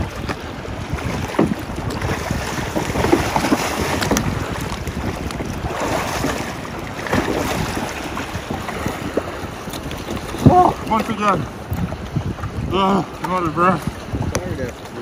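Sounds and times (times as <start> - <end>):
water splashing and sloshing: 0.0 - 15.0
wind buffeting microphone: 0.0 - 15.0.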